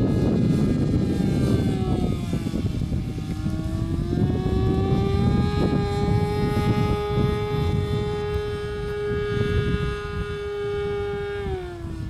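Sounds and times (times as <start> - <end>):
model plane engine buzzing: 0.0 - 12.0.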